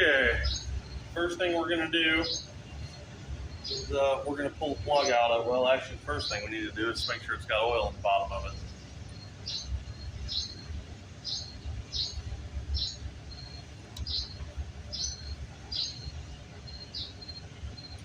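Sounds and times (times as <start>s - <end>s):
small bird chirping: 0.0s - 18.0s.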